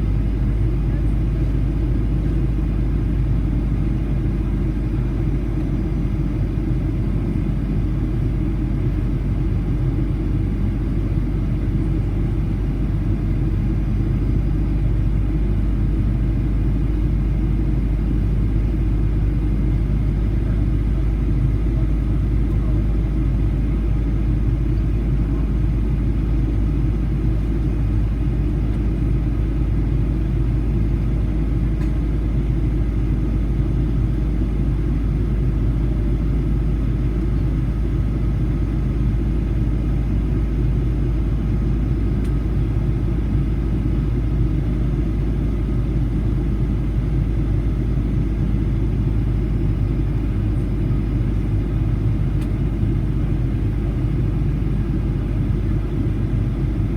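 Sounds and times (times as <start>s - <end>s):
airliner cabin rumble: 0.0s - 56.9s.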